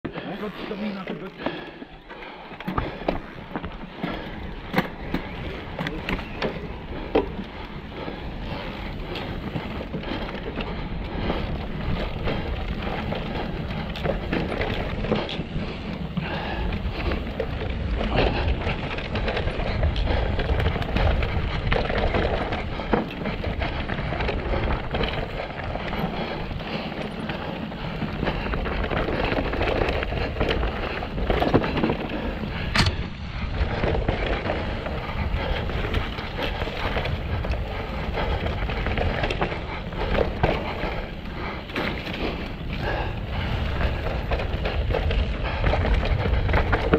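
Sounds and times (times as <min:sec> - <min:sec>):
bike knocks and rattles: 0:02.5 - 0:46.9.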